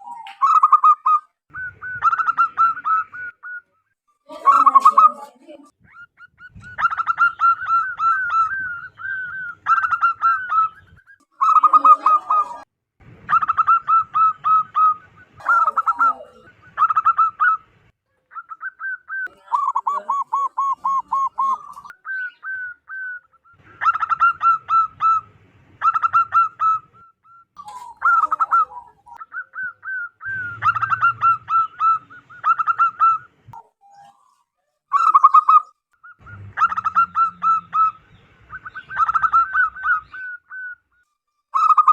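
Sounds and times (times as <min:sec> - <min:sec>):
doves cooing: 0:00.0 - 0:41.0.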